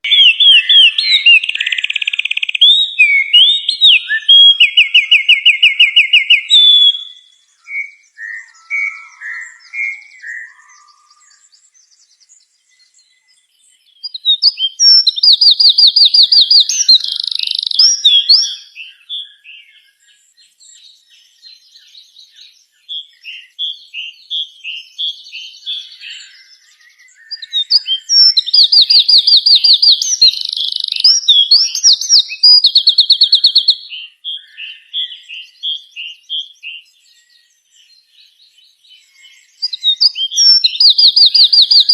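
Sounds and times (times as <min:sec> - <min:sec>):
rapid bird trills: 0:00.0 - 0:11.6, 0:14.0 - 0:19.6, 0:23.0 - 0:37.0, 0:39.0 - 0:41.9
songbird warbling: 0:00.0 - 0:11.7, 0:14.0 - 0:19.9, 0:23.0 - 0:36.9, 0:39.0 - 0:41.9.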